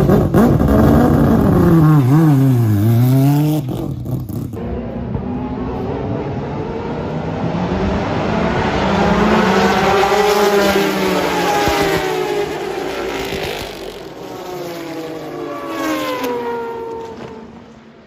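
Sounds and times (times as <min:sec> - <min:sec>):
race car engine at high revs: 0:00.0 - 0:17.7.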